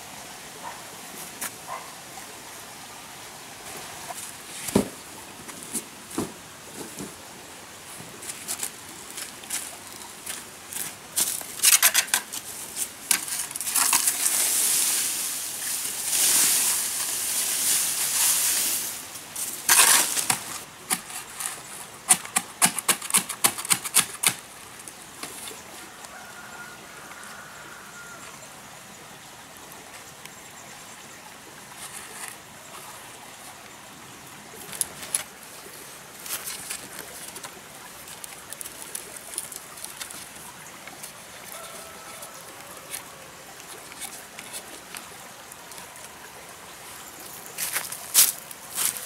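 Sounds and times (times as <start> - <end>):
faint steady hiss: 0.0 - 49.0.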